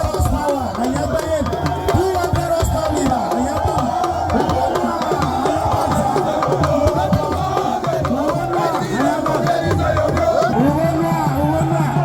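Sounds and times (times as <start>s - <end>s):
drum and percussion music: 0.0s - 12.0s
many voices: 0.0s - 12.0s.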